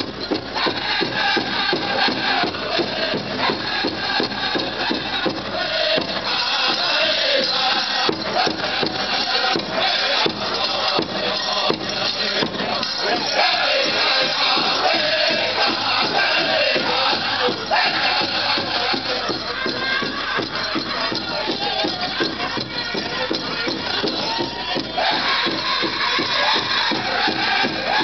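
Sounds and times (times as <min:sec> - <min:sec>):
big drum steady beat: 0:00.0 - 0:28.0
singers' voices wavering: 0:00.0 - 0:28.0.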